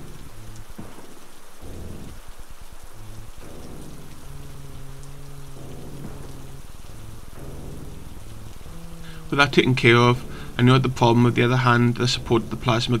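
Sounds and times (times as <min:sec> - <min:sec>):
low sustained chords: 0:00.0 - 0:13.0
rain-like hiss: 0:00.0 - 0:13.0.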